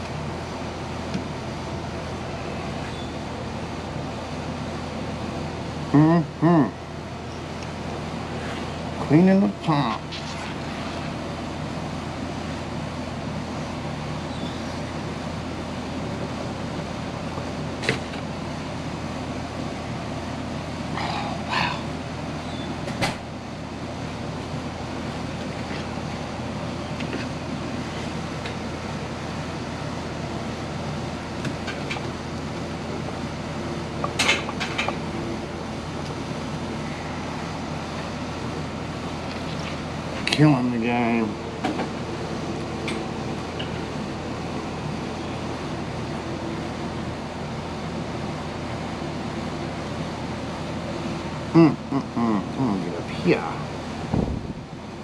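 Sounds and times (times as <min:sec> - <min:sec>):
steady hum and hiss: 0:00.0 - 0:55.0.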